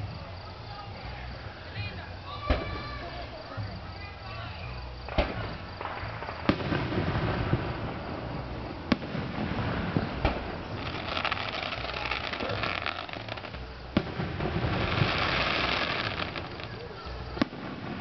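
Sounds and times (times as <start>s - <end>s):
fireworks crackling: 0.0s - 18.0s
fireworks booming: 1.1s - 18.0s.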